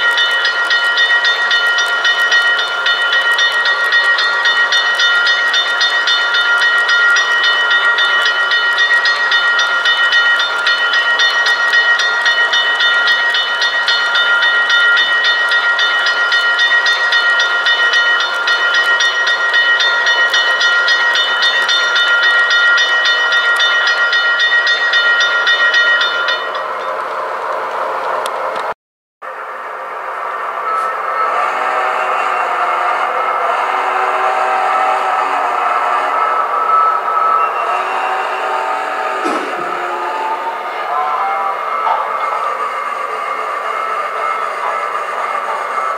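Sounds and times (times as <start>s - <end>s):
model train high-pitched whine: 0.0s - 28.7s, 29.3s - 45.9s.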